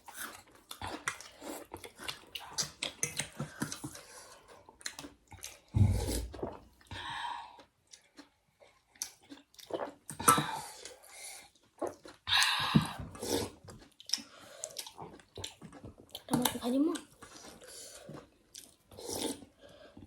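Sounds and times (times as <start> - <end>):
person chewing noodle soup: 0.0 - 20.0.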